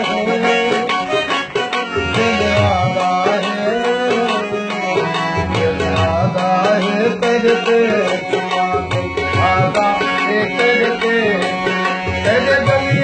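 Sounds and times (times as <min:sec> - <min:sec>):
harmonium melody: 0:00.0 - 0:13.0.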